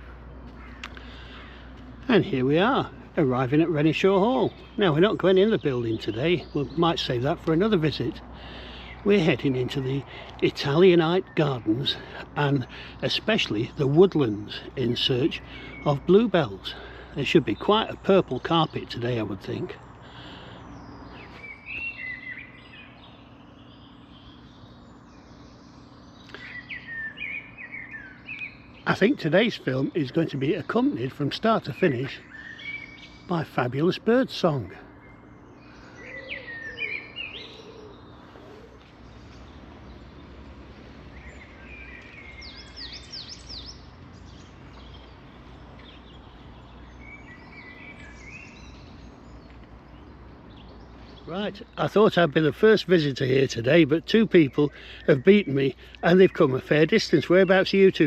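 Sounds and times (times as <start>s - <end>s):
birds chirping and warbling: 0.0s - 58.0s.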